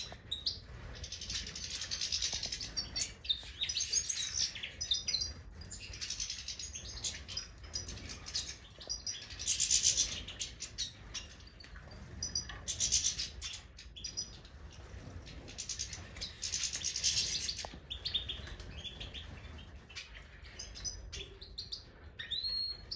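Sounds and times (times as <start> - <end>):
goldfinches chirping and twittering: 0.0 - 22.9.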